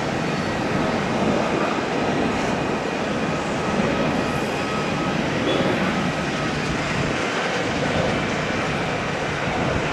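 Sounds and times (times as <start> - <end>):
jet engines running: 0.0 - 9.9.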